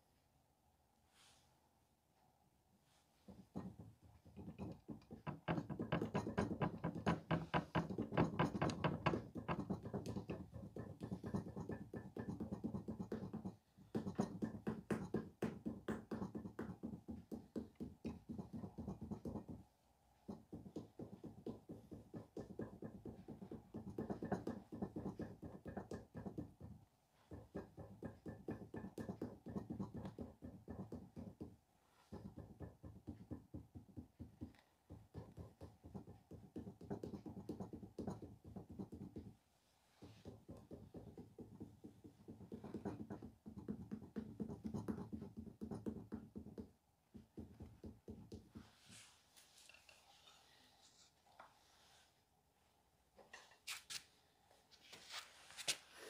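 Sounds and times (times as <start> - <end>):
tool tapping against clay: 3.3 - 39.4, 40.0 - 48.7.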